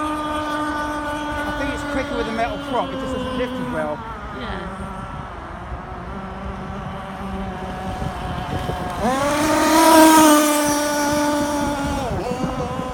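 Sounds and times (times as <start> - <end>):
boat engine revving: 0.0 - 12.9.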